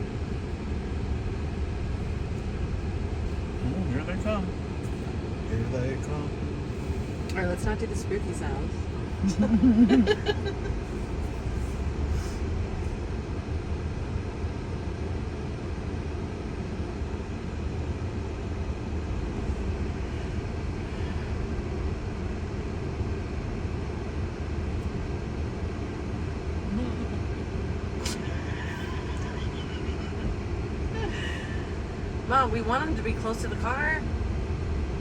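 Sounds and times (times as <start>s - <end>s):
road and tyre rumble in car: 0.0s - 35.0s.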